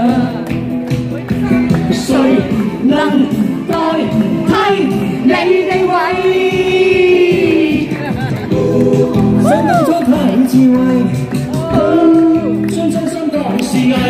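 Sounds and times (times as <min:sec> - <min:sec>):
backing music: 0:00.0 - 0:14.0
person singing: 0:01.3 - 0:14.0.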